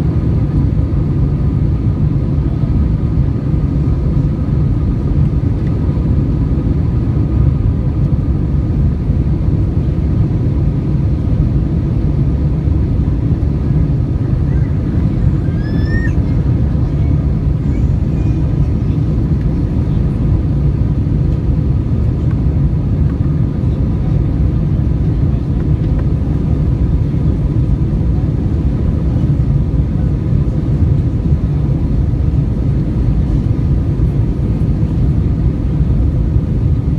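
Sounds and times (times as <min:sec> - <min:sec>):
jet airliner cabin rumble: 0:00.0 - 0:36.9.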